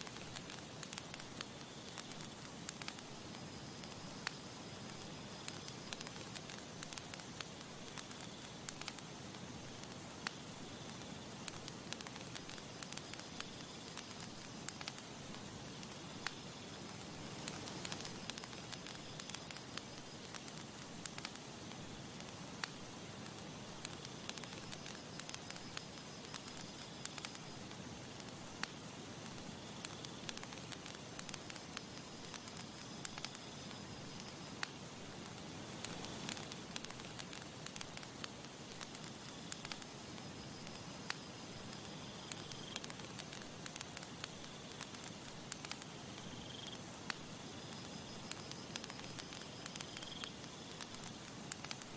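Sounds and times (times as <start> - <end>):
burning wood crackling and popping: 0.0 - 51.9
campfire hissing: 0.0 - 51.9.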